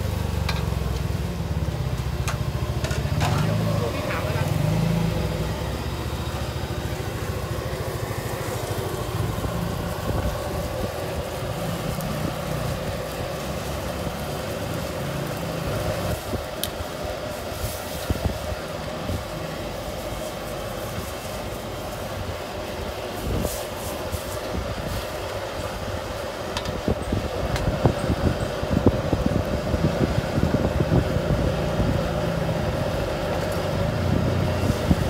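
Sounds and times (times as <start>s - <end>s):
gas burner running: 0.0s - 35.0s
liquid boiling: 0.0s - 35.0s.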